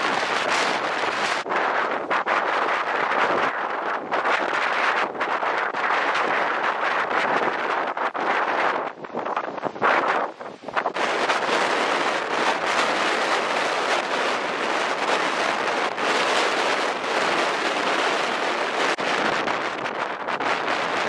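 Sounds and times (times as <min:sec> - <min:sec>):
rough surf: 0:00.0 - 0:21.0
strong wind gusts: 0:00.0 - 0:21.0.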